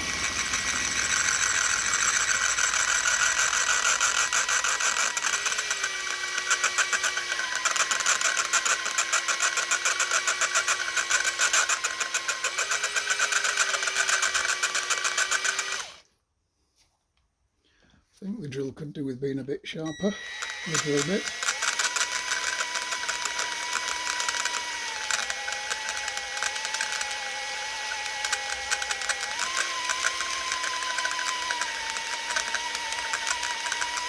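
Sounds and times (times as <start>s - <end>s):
electric drill boring into metal: 0.0s - 16.0s, 19.9s - 34.0s.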